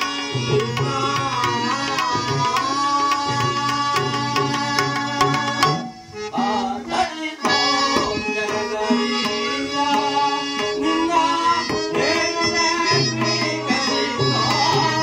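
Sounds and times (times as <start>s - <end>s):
harmonium melody: 0.0s - 15.0s
tabla strokes: 0.0s - 15.0s.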